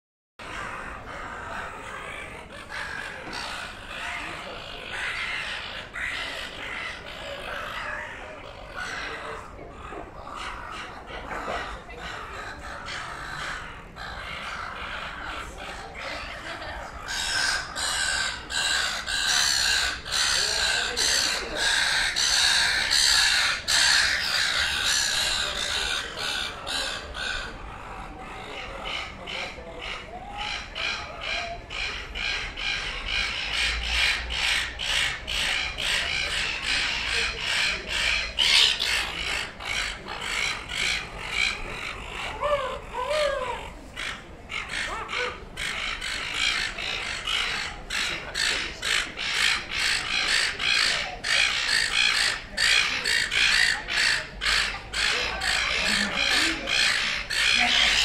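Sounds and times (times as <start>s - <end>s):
gulls squawking: 0.4s - 58.0s.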